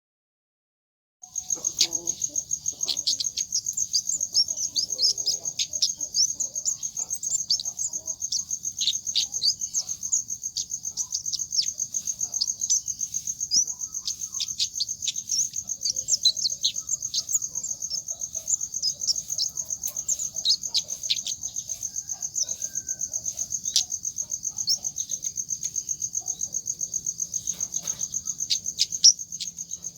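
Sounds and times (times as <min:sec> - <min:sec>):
bird pulsing trill: 0:01.2 - 0:25.4
sharp bird chirps: 0:01.2 - 0:29.9.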